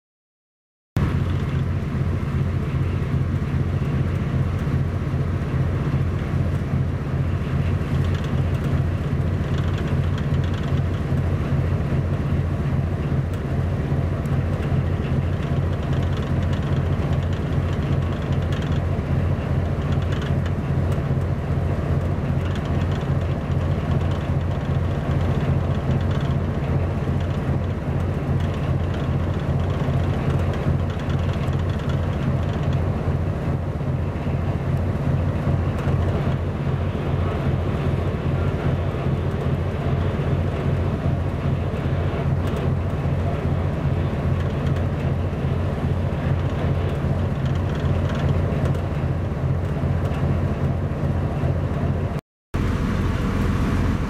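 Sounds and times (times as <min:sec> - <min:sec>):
engine drone with fast throb: 0:01.0 - 0:54.0.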